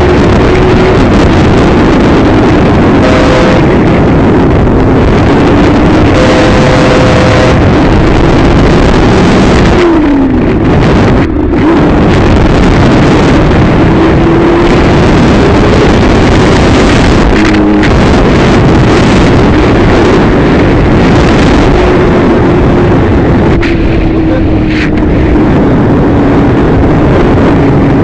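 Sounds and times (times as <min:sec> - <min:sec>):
vehicle engine running: 0:00.0 - 0:28.0
wind rush on microphone: 0:00.0 - 0:28.0.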